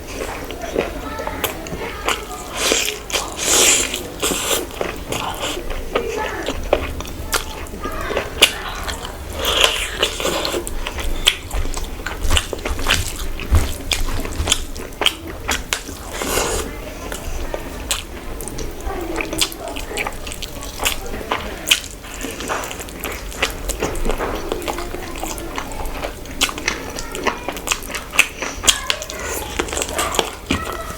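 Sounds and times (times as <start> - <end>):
wet chewing and lip smacks: 0.1 - 30.9.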